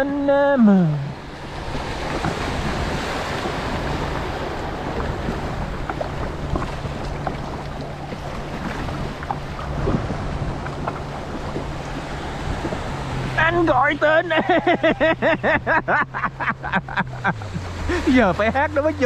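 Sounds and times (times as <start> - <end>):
boat engine idling: 0.0 - 19.0
water lapping: 0.0 - 19.0
wind: 0.0 - 19.0.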